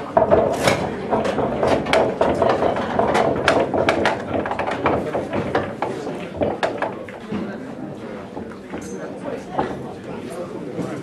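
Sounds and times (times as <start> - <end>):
murmur of voices: 0.0 - 11.0
pool balls clacking: 0.0 - 11.0.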